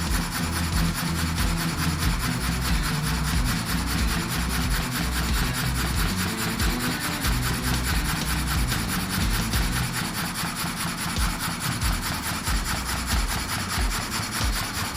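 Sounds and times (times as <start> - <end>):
saw blade cutting log: 0.0 - 14.9.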